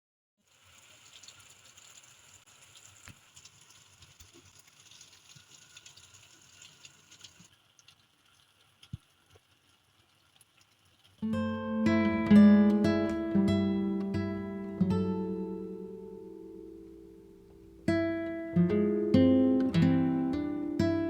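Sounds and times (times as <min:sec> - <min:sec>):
light rain pattering: 0:00.4 - 0:21.0.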